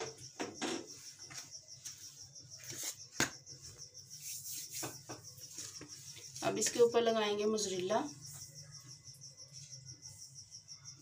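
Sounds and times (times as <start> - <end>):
insect chirping rapidly: 0.0 - 11.0.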